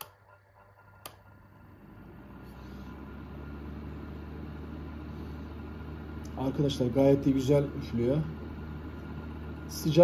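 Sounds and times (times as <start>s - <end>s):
fan heater blowing: 0.0s - 10.0s.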